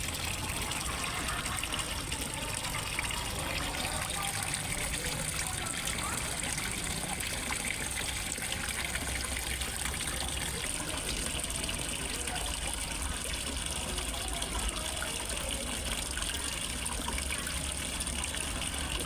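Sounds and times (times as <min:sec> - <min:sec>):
waterfall splashing into pond: 0:00.0 - 0:19.0.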